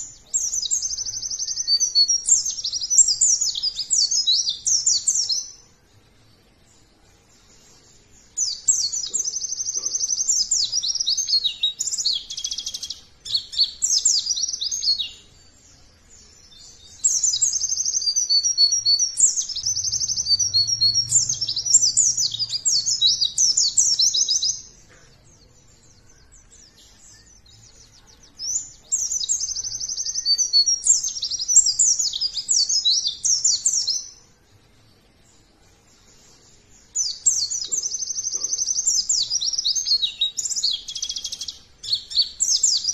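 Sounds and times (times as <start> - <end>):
bird twittering song: 0.0 - 42.9.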